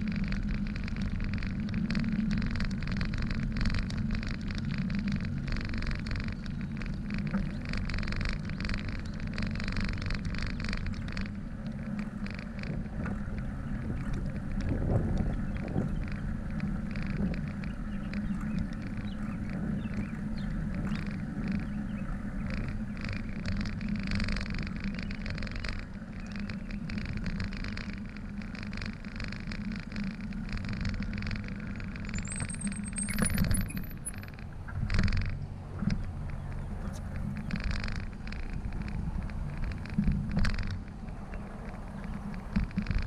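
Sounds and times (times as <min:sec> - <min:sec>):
bicycle tyres rolling on asphalt: 0:00.0 - 0:43.0
wind buffeting microphone: 0:00.0 - 0:43.0.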